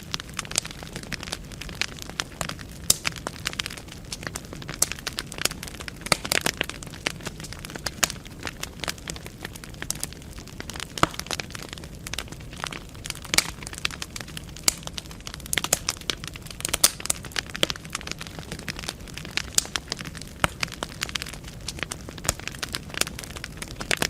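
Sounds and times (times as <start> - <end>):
logs crackling and popping: 0.0 - 24.0
low rumble of flames: 0.0 - 24.0.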